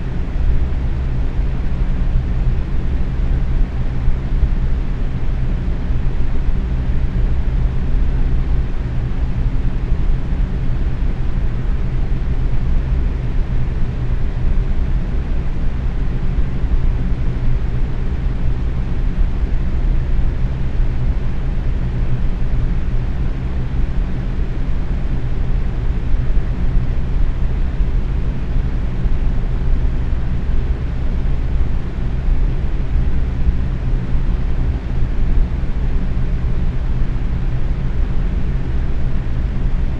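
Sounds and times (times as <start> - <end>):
box fan running: 0.0 - 39.9.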